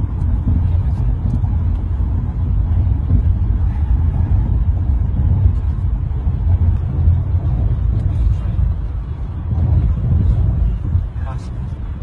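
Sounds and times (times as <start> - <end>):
car driving heard from cabin: 0.0 - 12.0.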